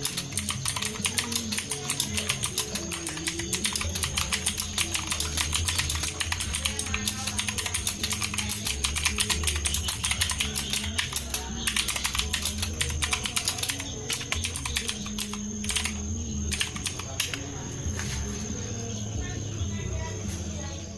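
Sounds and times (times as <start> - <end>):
mechanical keyboard typing: 0.0 - 17.6.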